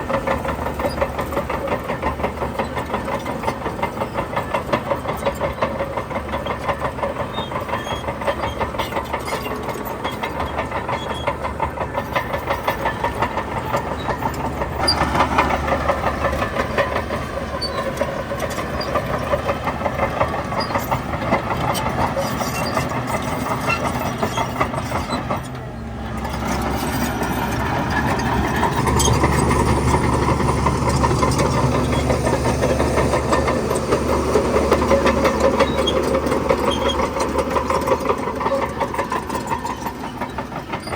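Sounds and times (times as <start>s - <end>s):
bulldozer diesel engine clattering: 0.0s - 40.9s.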